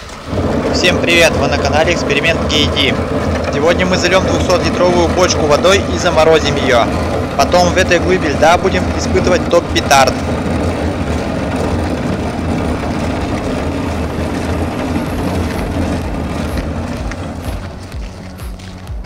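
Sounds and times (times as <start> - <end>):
steel drum scraping over ice: 0.0 - 19.0.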